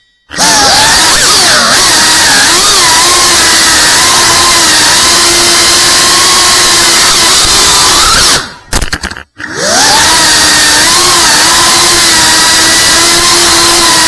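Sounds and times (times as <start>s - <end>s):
drone propellers whining: 0.3s - 8.7s, 9.4s - 14.0s.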